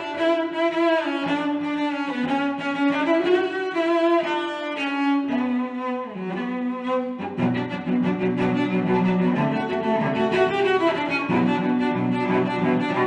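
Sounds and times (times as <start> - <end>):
cello and violin melody: 0.0 - 13.0.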